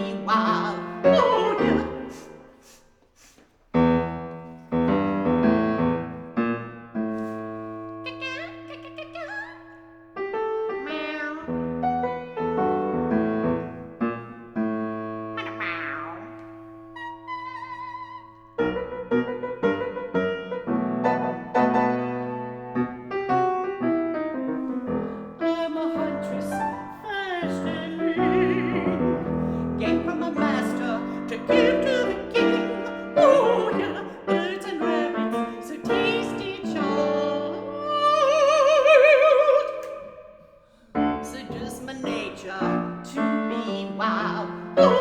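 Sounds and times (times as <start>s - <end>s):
piano chords: 0.0s - 2.6s, 3.7s - 45.0s.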